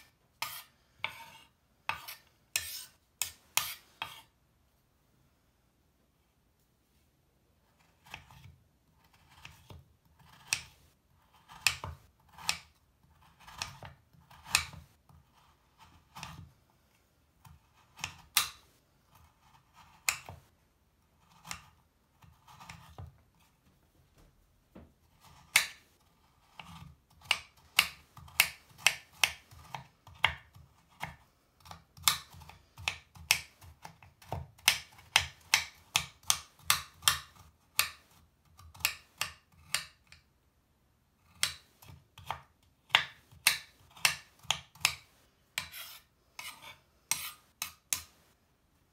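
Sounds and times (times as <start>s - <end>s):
knife cutting and chopping on board: 0.0s - 4.4s, 7.6s - 16.6s, 17.4s - 40.3s, 41.2s - 48.4s.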